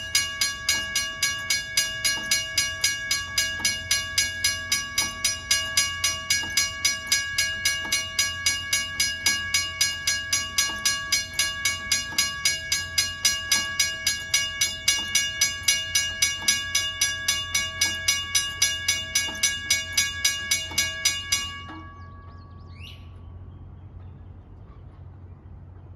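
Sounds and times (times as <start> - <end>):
crossing signal bell ringing: 0.0 - 23.2.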